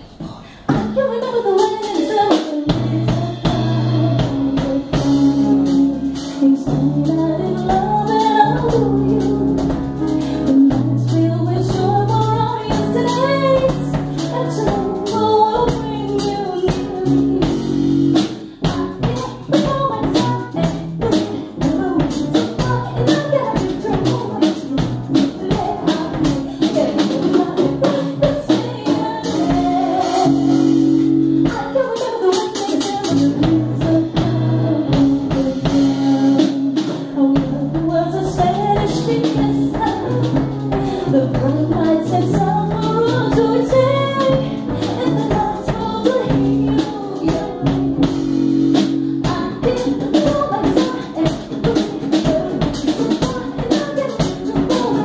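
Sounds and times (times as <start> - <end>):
drums with steady beat: 0.0 - 55.0
piano: 0.0 - 55.0
woman singing into a microphone: 0.0 - 55.0.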